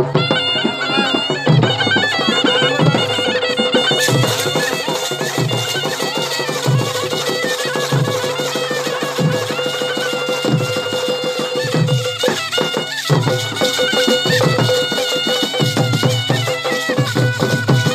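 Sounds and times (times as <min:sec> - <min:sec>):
fast driving drumming: 0:00.0 - 0:17.9
shrill double-reed horn melody: 0:00.0 - 0:17.9.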